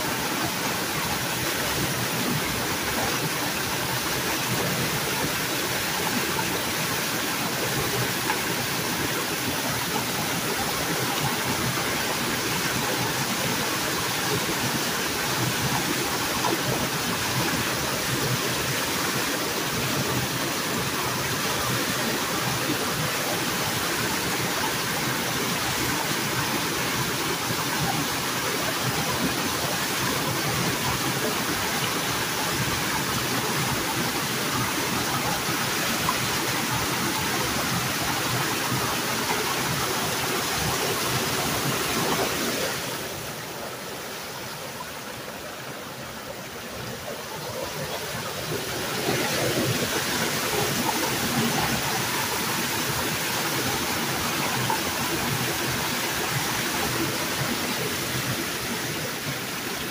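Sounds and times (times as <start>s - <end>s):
water rushing from culvert: 0.0s - 59.9s.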